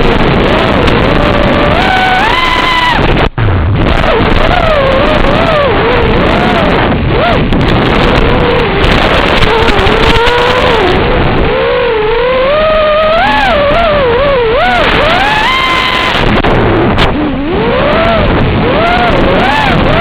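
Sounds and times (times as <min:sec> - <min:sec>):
quadcopter motors whining: 0:00.0 - 0:03.3, 0:03.9 - 0:20.0
heavy wind noise: 0:00.0 - 0:20.0.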